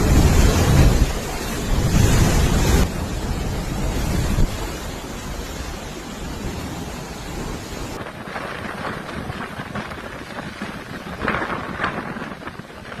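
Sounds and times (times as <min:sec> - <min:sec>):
strong wind on microphone: 0:00.0 - 0:04.9, 0:06.2 - 0:13.0
heavy rain: 0:00.0 - 0:13.0.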